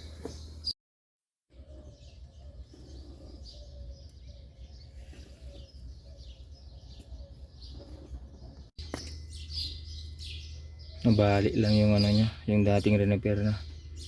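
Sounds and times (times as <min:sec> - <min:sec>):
small birds chirping: 0:00.0 - 0:00.8, 0:01.5 - 0:14.0.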